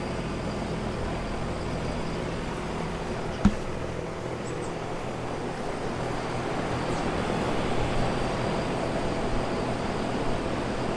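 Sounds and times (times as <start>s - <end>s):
condenser fan air rush: 0.0s - 10.9s.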